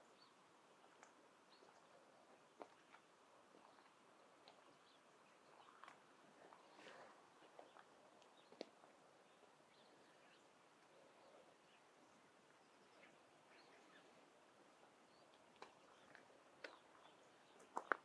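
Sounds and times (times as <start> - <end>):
birds chirping: 0.0 - 18.0
soft background hiss: 0.0 - 18.0.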